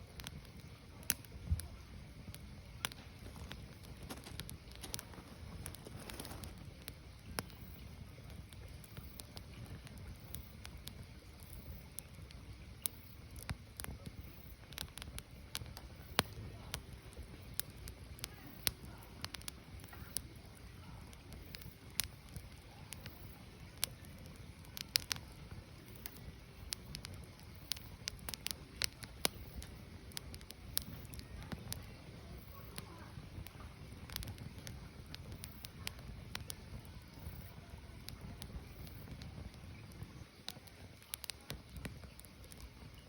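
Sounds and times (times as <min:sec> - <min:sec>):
firewood crackling and popping: 0:00.0 - 0:43.0
low fire rumble: 0:00.0 - 0:43.0.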